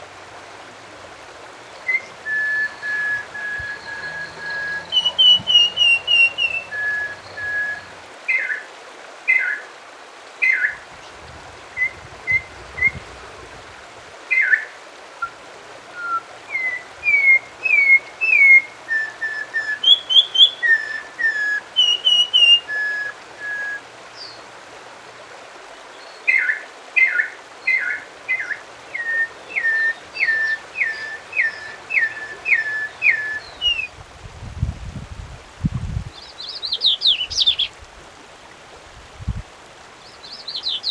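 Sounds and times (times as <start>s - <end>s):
songbird singing: 0.0s - 8.6s, 10.4s - 13.7s, 14.3s - 24.5s, 25.8s - 35.0s, 35.7s - 37.9s, 39.9s - 40.9s.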